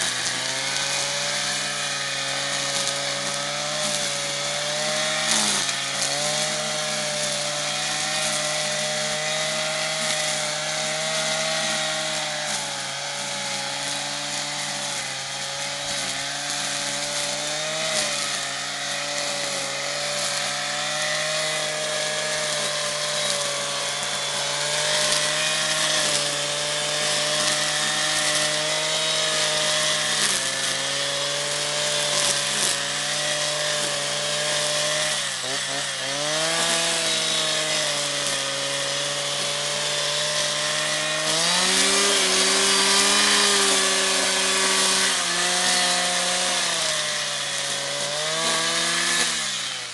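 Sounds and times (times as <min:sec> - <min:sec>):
petrol strimmer cutting weeds: 0:00.0 - 0:49.9.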